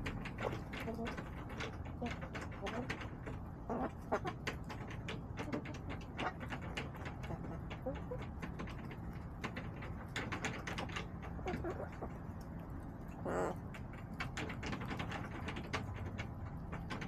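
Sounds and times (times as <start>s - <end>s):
hens clucking softly: 0.0s - 17.0s.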